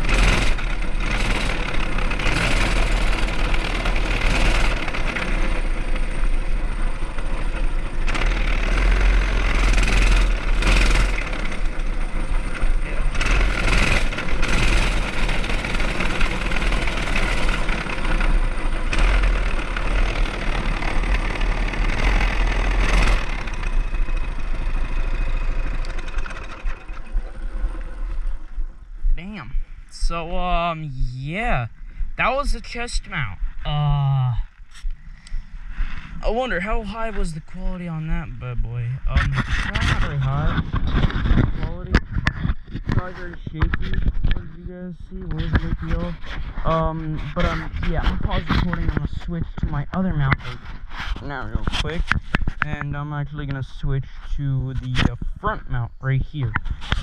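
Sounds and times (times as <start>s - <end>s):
small engine rumbling: 0.0s - 57.0s.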